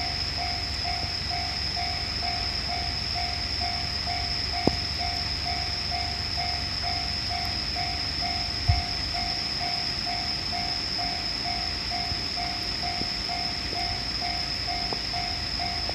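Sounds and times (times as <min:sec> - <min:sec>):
railroad crossing alarm ringing: 0:00.0 - 0:15.9
steady low rumble: 0:00.0 - 0:15.9.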